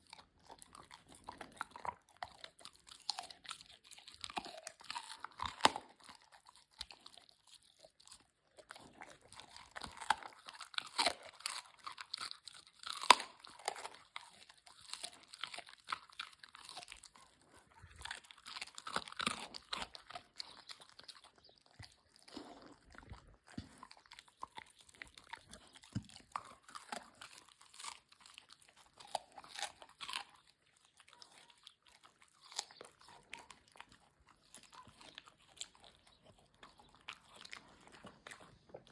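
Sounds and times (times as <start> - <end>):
crunchy food being chewed: 0.0 - 38.9.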